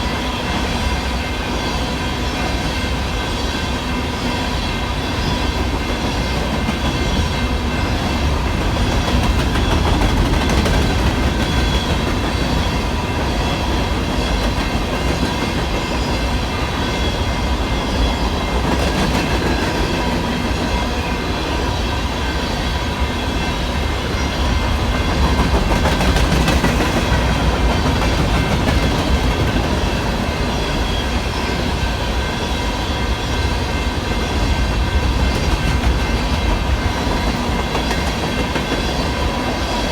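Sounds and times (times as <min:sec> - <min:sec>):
crossing bell ringing: 0:00.0 - 0:39.9
train cars rumbling: 0:00.0 - 0:39.9
wheels clacking over rail joints: 0:05.1 - 0:39.9.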